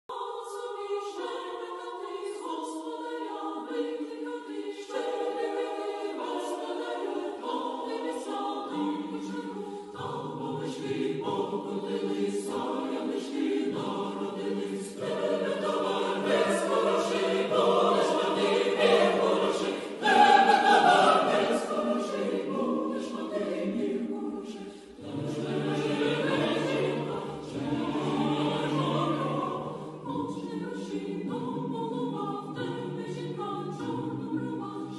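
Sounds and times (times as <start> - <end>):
choir singing: 0.1 - 34.9.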